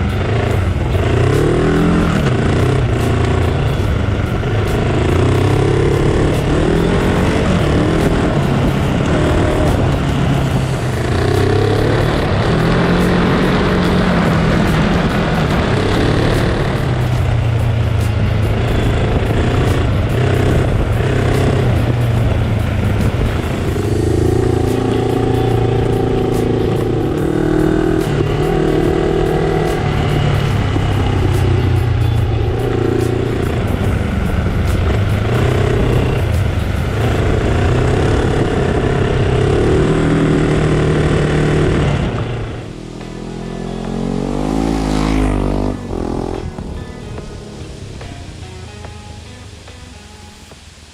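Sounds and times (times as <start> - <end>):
motorcycle engine revving: 0.0 - 49.6.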